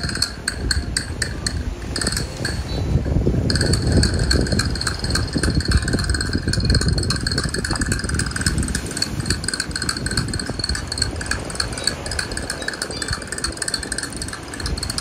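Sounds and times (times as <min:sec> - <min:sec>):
metallic clinking and jingling: 0:00.0 - 0:02.8, 0:03.5 - 0:15.0
wind buffeting microphone: 0:00.0 - 0:15.0.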